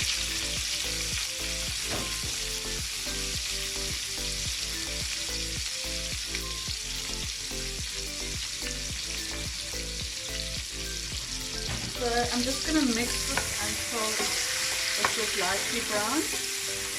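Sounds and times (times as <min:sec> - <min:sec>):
vegetables sizzling in hot oil: 0:00.0 - 0:16.9.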